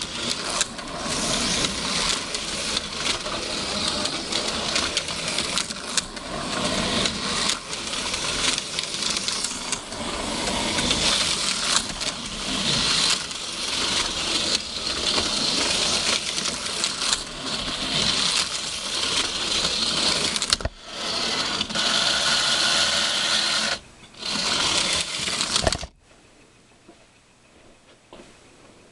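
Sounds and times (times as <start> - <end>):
slot car motors buzzing: 0.0 - 25.9.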